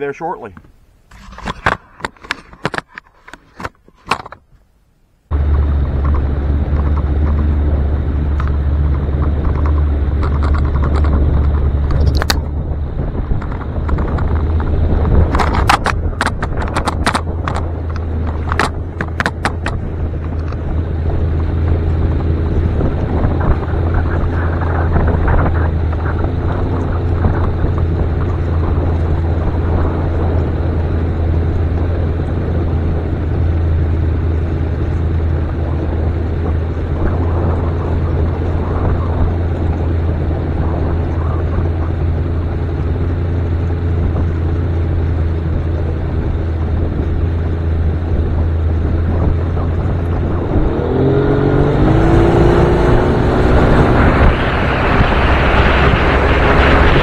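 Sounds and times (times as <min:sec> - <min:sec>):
water noise: 0:00.0 - 0:57.0
outboard motor droning: 0:05.2 - 0:57.0
wind noise: 0:05.3 - 0:57.0.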